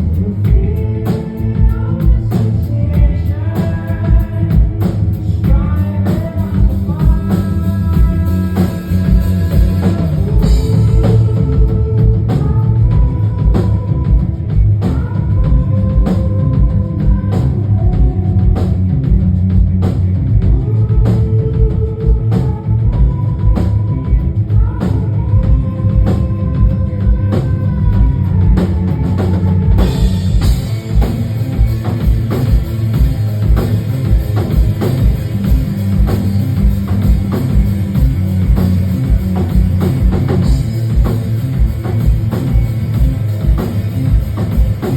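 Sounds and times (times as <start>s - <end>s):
drum kit beat: 0.0s - 44.9s
rock band playing instrumental: 0.0s - 44.9s.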